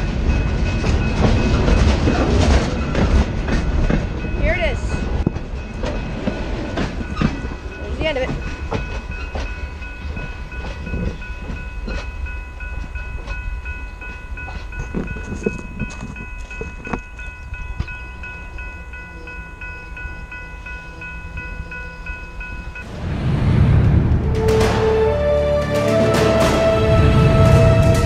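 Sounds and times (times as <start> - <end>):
railroad crossing bell ringing: 0.0 - 22.9
train rumble and clatter: 0.0 - 28.0.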